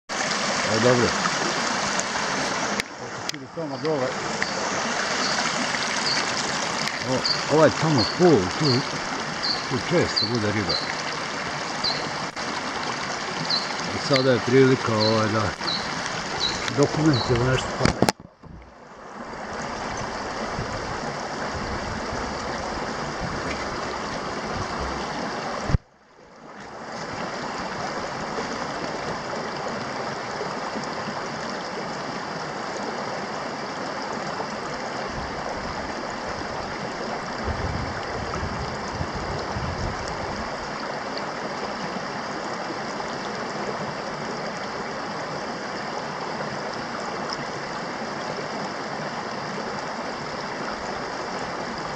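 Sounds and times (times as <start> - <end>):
creek water running over rocks: 0.1 - 51.9.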